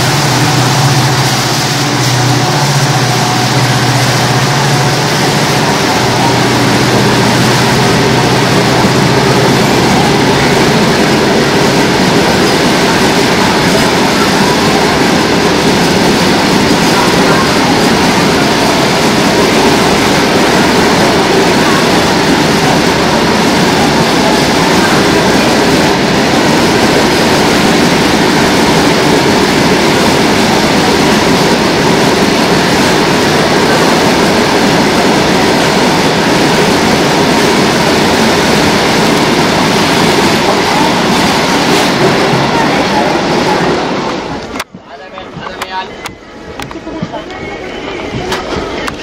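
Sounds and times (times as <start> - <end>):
freight wagons rolling on rails: 0.0 - 49.0.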